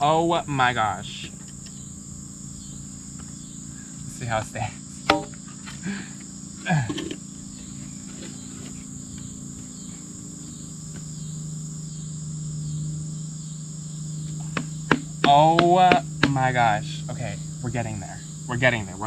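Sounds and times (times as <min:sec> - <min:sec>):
high-pitched insect chorus: 0:00.0 - 0:19.0
low hum: 0:00.0 - 0:19.0.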